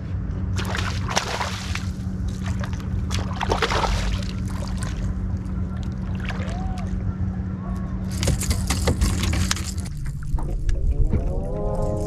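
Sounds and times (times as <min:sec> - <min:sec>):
boat motor hum: 0:00.0 - 0:12.0
water splashing and sloshing: 0:00.4 - 0:07.3, 0:08.0 - 0:12.0.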